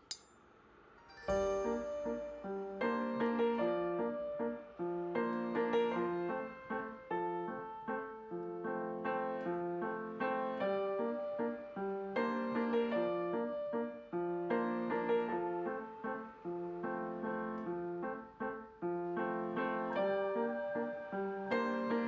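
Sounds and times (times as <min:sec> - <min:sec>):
piano music: 0:01.1 - 0:22.0.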